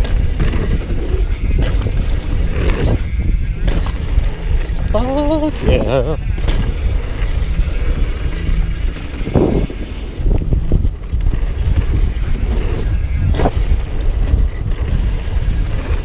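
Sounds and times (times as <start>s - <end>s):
bike knocking and rattling: 0.0s - 16.0s
tyres rumbling on dirt: 0.0s - 16.0s
wind buffeting microphone: 0.0s - 16.0s.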